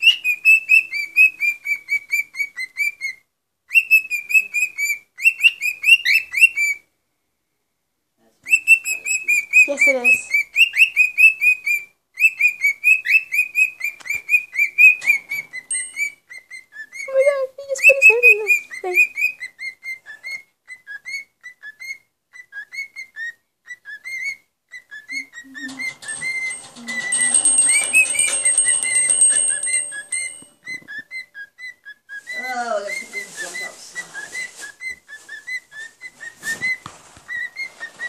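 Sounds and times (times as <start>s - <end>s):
cockatiel whistling: 0.0s - 6.8s, 8.5s - 17.2s, 17.8s - 38.0s.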